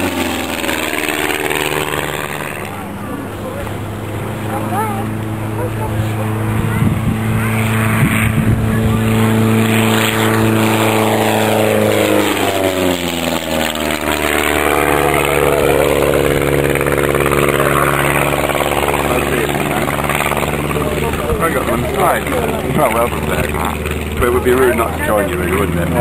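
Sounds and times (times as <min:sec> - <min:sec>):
propeller aircraft engine droning: 0:00.0 - 0:26.0.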